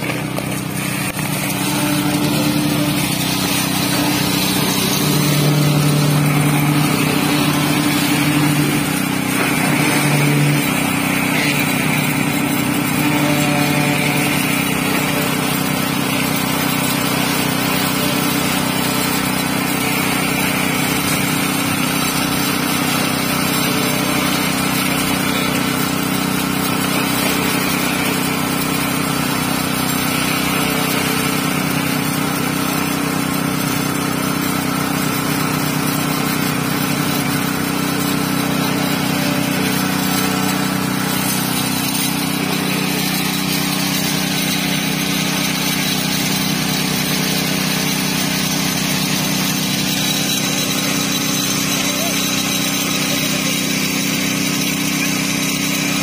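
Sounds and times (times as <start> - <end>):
concrete vibrator droning: 0.0 - 56.0.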